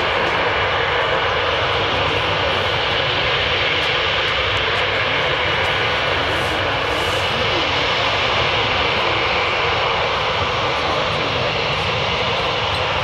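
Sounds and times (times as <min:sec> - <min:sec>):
jet engines at taxi power: 0:00.0 - 0:13.0.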